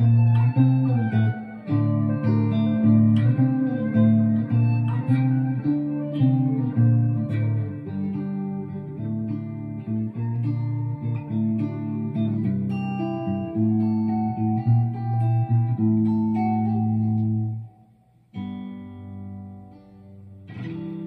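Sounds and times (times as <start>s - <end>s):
electric guitar notes and chords: 0.0s - 17.8s, 18.4s - 21.0s.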